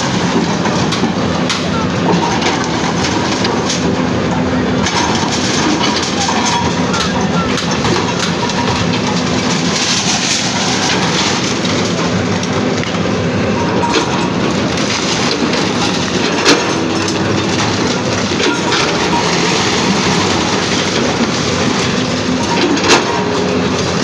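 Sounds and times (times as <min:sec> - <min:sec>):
debris crushing and clattering: 0:00.0 - 0:24.0
demolition machinery running: 0:00.0 - 0:24.0.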